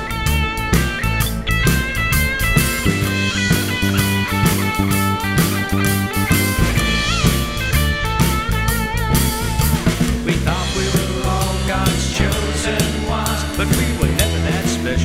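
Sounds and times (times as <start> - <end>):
lead guitar melody: 0.0 - 14.6
bass guitar: 0.0 - 15.0
drum beat: 0.0 - 15.0.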